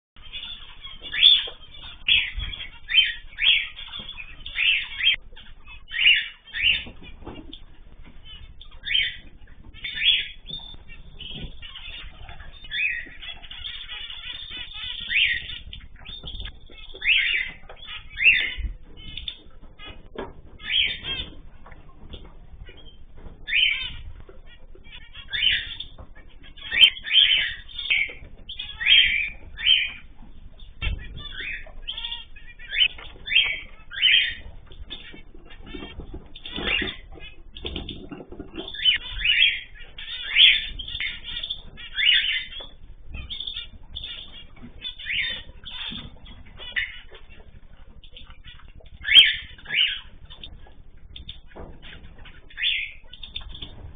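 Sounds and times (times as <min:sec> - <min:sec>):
cage birds chirping and squawking: 0:00.2 - 0:53.9.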